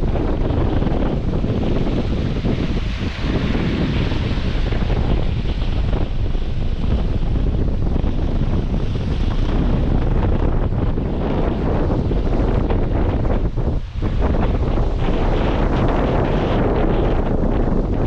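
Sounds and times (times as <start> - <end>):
waves washing onto stony beach: 0.0 - 18.0
wind buffeting microphone: 0.0 - 18.0.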